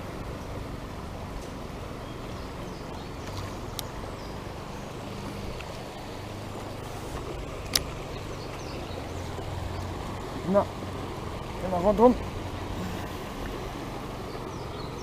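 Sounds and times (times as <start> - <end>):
stream running over stones: 0.0 - 15.0.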